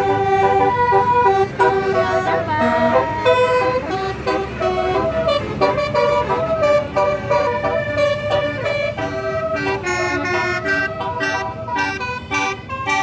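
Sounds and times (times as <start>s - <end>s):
low engine rumble: 0.0s - 13.0s
multi-tone horn playing tune: 0.0s - 13.0s.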